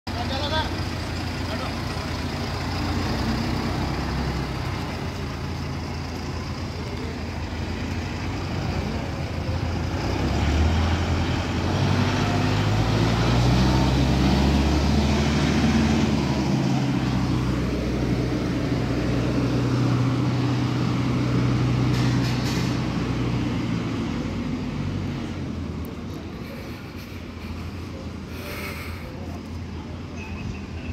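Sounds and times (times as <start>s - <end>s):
tractor diesel engine revving: 0.1s - 29.3s.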